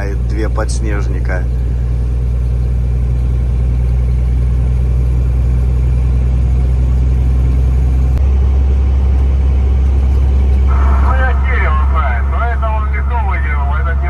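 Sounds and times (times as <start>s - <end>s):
road noise: 0.0s - 14.0s
truck engine droning: 0.0s - 14.0s.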